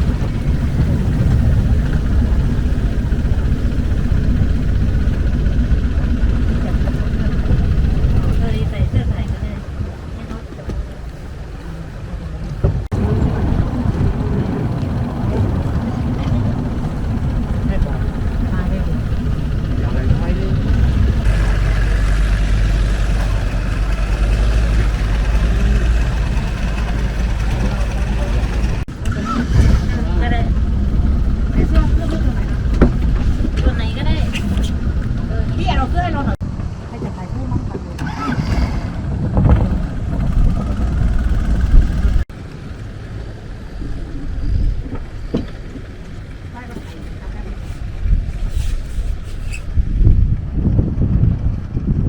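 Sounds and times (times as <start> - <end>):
boat engine rumbling: 0.0 - 52.0.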